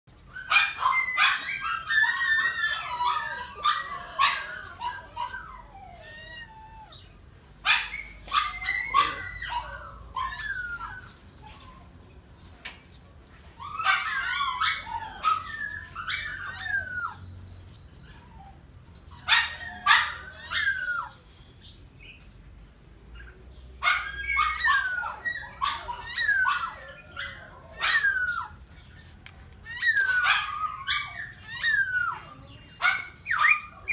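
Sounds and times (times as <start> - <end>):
small dogs yipping and whining: 0.2 - 21.4, 23.0 - 33.9.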